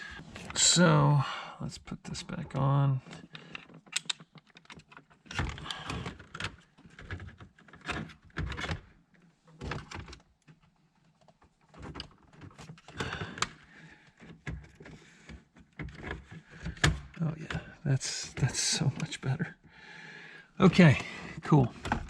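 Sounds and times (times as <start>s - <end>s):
plastic parts clicking and scraping: 3.0s - 19.7s, 20.6s - 22.0s.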